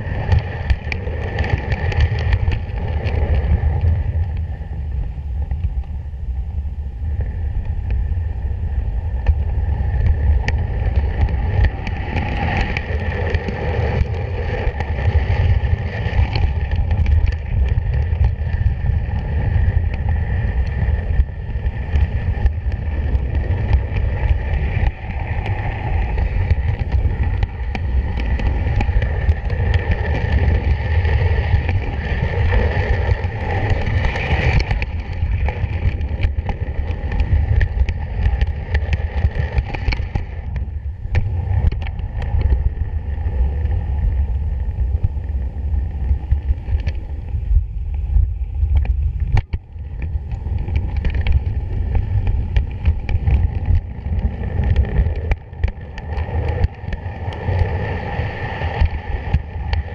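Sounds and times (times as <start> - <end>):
train wheels rumbling on rail: 0.0 - 6.2, 6.9 - 59.9.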